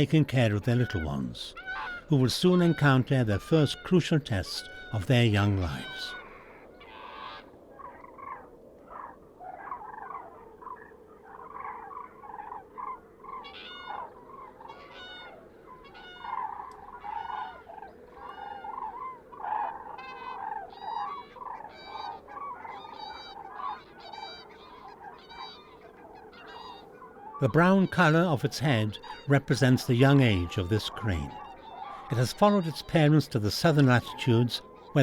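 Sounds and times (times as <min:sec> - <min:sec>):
swans honking: 0:00.0 - 0:08.4, 0:09.0 - 0:35.0
high ringing swan calls: 0:00.6 - 0:35.0.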